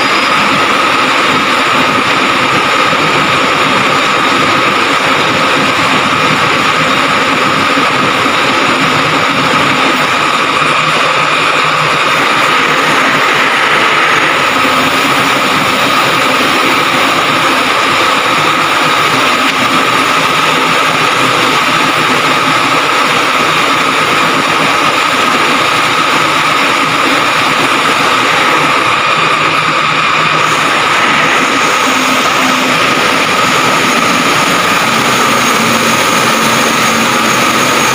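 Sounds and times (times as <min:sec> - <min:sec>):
crane engine whining: 0:00.0 - 0:37.9.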